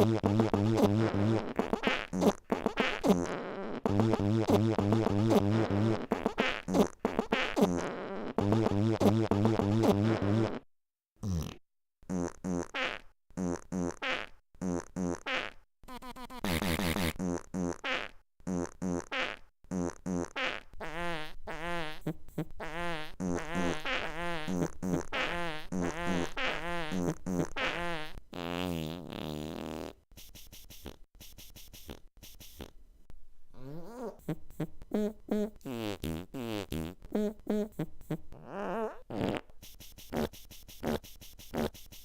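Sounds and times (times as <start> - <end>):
pitched fart sounds: 0.0 - 32.7, 33.6 - 42.0.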